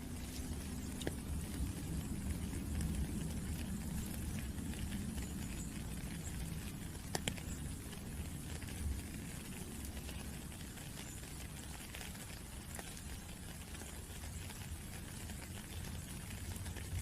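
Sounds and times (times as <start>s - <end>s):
rain falling: 0.0s - 17.0s
sharp drip clicks: 0.4s - 17.0s.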